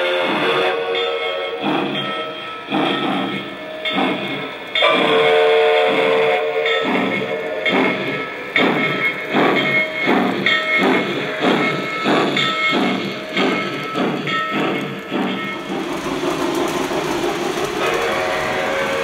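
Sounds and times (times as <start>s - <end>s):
steady steam hiss: 0.0s - 19.0s
steam locomotive chuffing: 0.0s - 19.0s.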